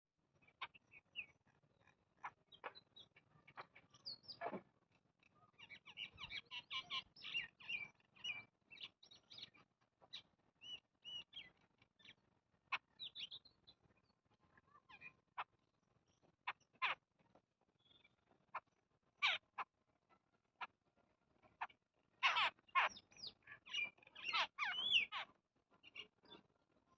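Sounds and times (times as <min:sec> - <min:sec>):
small birds chirping: 0:00.3 - 0:26.9.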